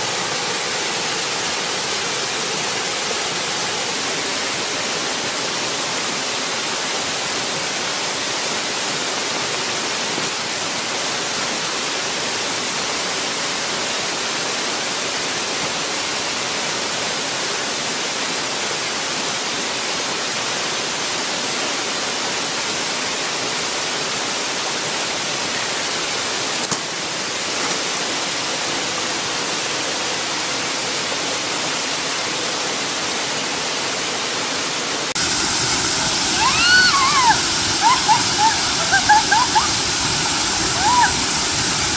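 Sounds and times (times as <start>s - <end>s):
waterfall pouring into pool: 0.0s - 41.9s.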